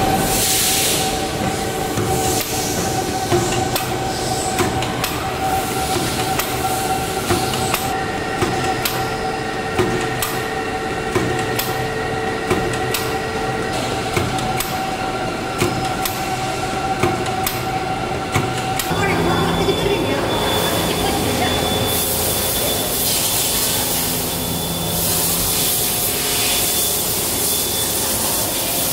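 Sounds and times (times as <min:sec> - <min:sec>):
machine drone with high whine: 0:00.0 - 0:28.9.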